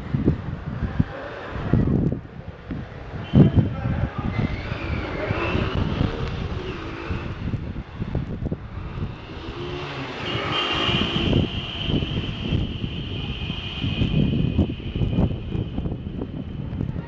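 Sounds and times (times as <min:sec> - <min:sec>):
street traffic: 0:00.0 - 0:17.0
wind on microphone: 0:00.0 - 0:17.0.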